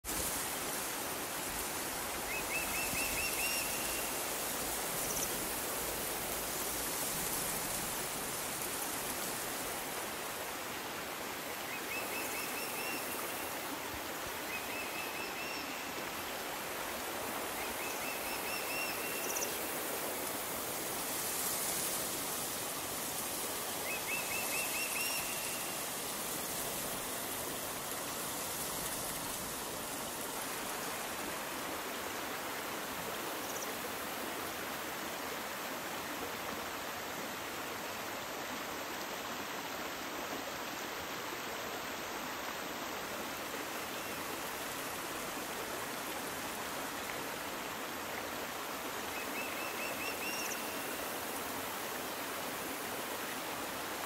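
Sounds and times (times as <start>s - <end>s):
waterfall and stream rushing: 0.0s - 54.0s.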